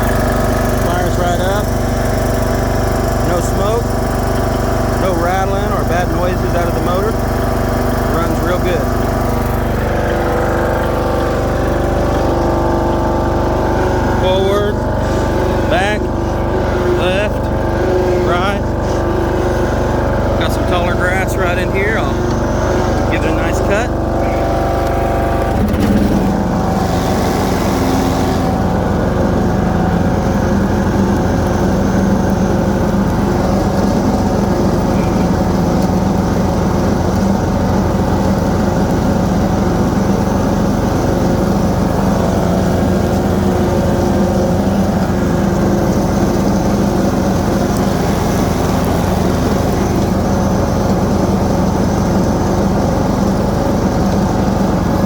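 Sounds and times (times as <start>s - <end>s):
mower engine cutting grass: 0.0s - 55.0s.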